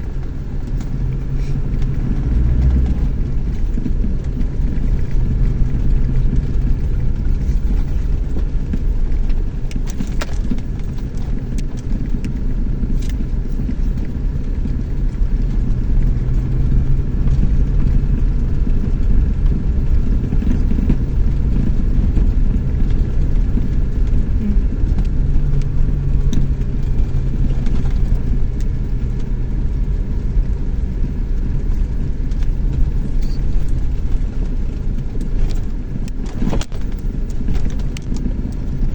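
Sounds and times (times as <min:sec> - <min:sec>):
pickup engine hum: 0:00.0 - 0:38.9
road rumble: 0:00.0 - 0:38.9.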